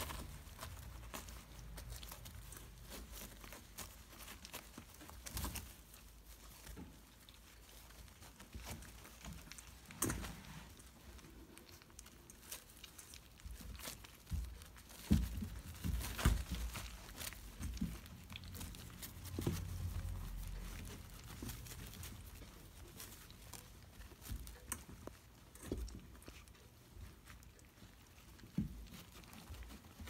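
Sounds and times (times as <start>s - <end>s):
animal chewing with crunches: 0.0s - 30.0s
plastic pad crinkling: 0.0s - 30.0s.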